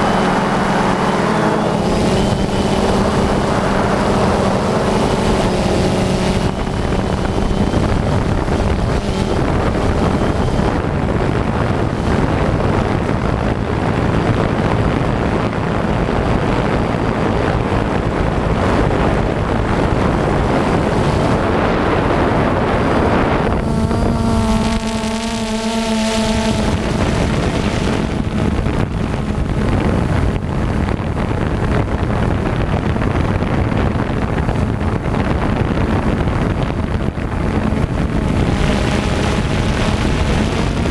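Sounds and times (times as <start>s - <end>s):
drone propellers buzzing: 0.0s - 40.9s
hum with pitched tones: 0.0s - 40.9s
wind rushing over microphone: 0.0s - 40.9s.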